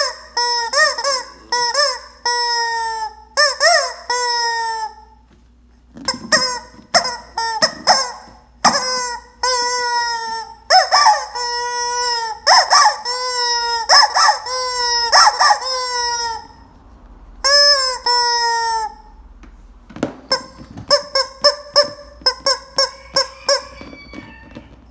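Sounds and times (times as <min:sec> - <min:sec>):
rubber chicken toy squawking: 0:00.0 - 0:05.2, 0:06.0 - 0:16.6, 0:17.4 - 0:19.2, 0:20.2 - 0:24.9
short toy squeaks: 0:00.0 - 0:05.2, 0:06.0 - 0:16.6, 0:17.4 - 0:19.1, 0:20.2 - 0:24.9.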